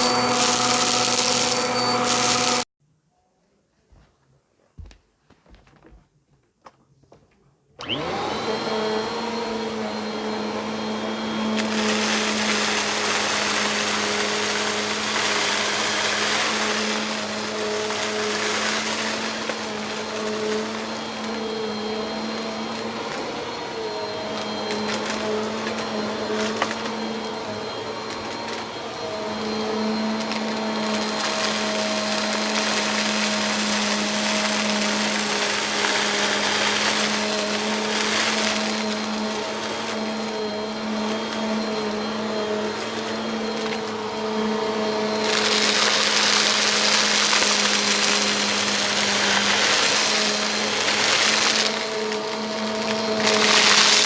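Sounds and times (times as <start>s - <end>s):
vacuum cleaner running: 0.0s - 2.7s, 7.8s - 54.0s.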